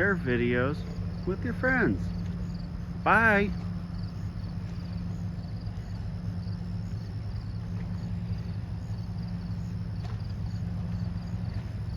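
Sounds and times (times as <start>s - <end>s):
crickets chirping: 0.0s - 11.9s
low hum: 0.0s - 11.9s.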